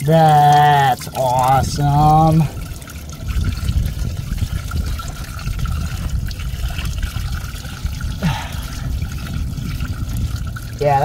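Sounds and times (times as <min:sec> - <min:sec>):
coolant splashing out: 0:00.0 - 0:11.0.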